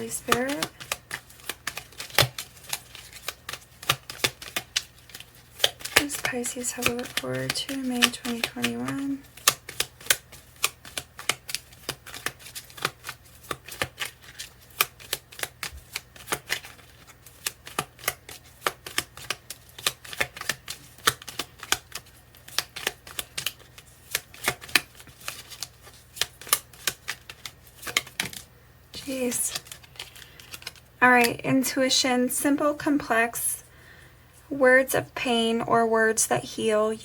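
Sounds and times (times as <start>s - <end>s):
cards being shuffled: 0.0s - 31.4s.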